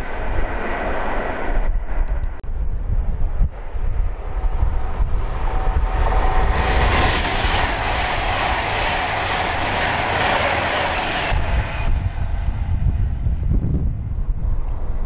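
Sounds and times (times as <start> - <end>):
train passing with rushing roar: 0.0 - 15.0
wind buffeting microphone: 0.0 - 15.0.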